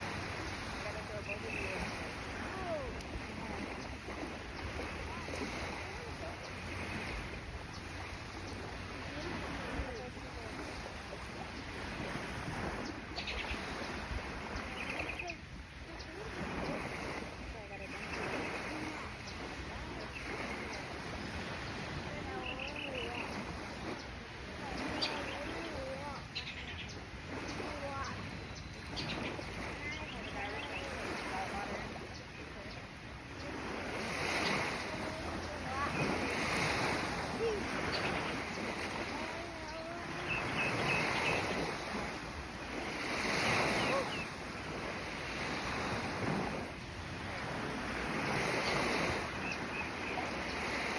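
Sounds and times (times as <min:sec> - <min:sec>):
sea water lapping in shallows: 0:00.0 - 0:50.9
wind buffeting microphone: 0:00.0 - 0:50.9.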